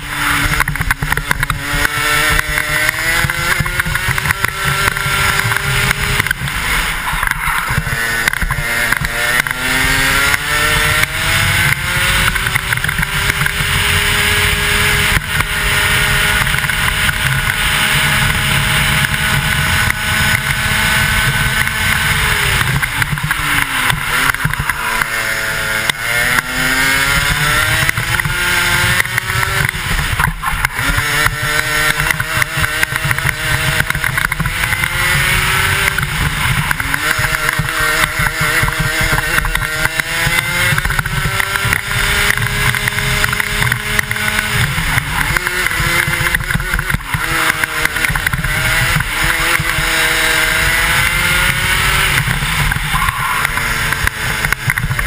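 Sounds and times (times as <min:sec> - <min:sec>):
kart engine racing: 0:00.0 - 0:55.0.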